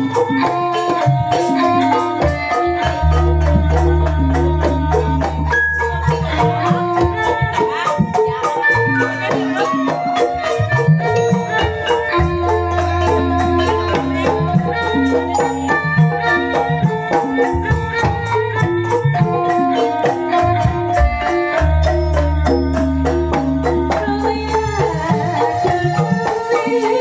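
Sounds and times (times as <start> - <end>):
bamboo xylophones playing: 0.0 - 27.0.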